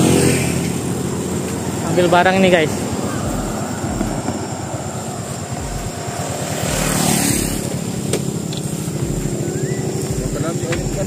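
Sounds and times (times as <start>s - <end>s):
engine running with low pulsing: 0.0s - 11.0s.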